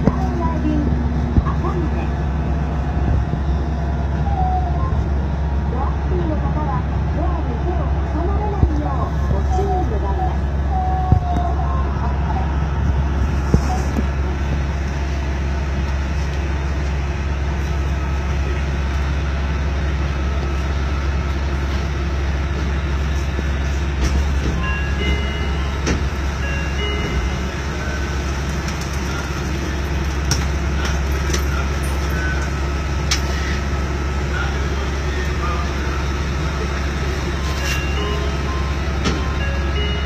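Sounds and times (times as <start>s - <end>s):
monorail car rumbling on track: 0.0s - 40.0s.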